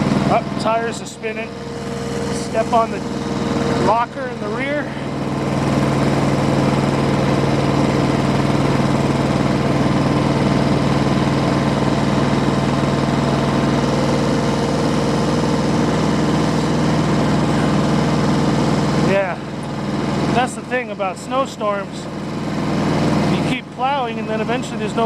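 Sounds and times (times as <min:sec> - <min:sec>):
diesel tractor engine running: 0:00.0 - 0:25.0
snowblower noise: 0:00.0 - 0:25.0.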